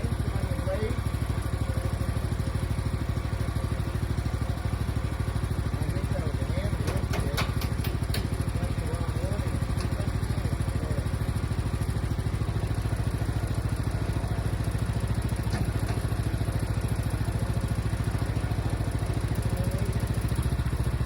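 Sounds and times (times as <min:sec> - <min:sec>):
sawmill gas engine running: 0:00.0 - 0:21.0.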